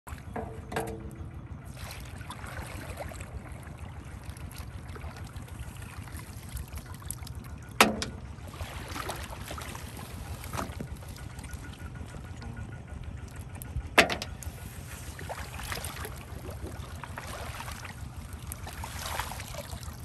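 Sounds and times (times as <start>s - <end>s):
low rumble: 0.1s - 20.0s
water splashing and trickling: 0.1s - 20.0s.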